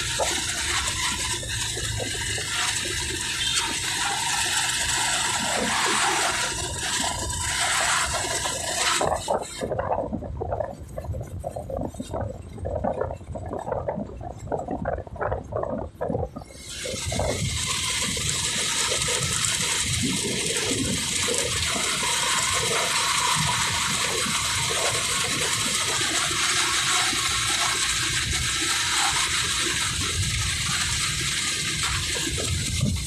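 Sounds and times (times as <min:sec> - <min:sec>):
wind rushing over microphone: 0:00.0 - 0:26.2, 0:29.2 - 0:33.0
road and engine rumble: 0:00.0 - 0:33.0.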